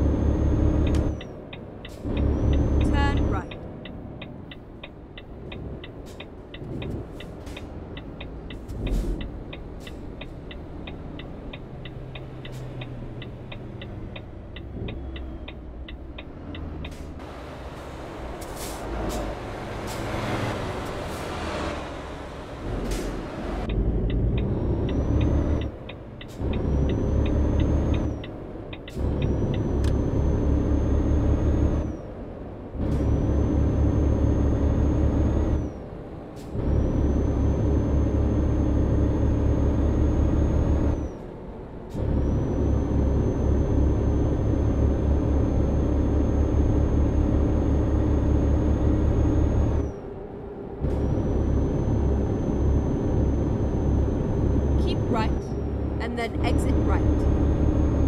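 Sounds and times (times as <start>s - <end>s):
vehicle engine accelerating: 0.0s - 58.0s.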